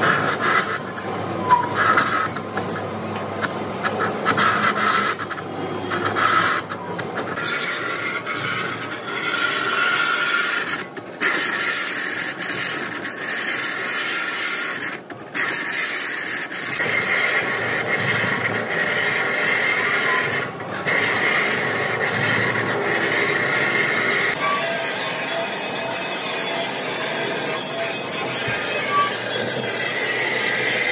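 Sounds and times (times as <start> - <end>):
lathe tool scraping metal: 0.0 - 30.9.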